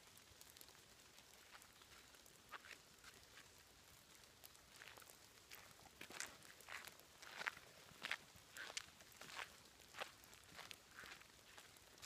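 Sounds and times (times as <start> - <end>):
footsteps on wet tarmac: 0.6 - 3.7, 4.7 - 12.0.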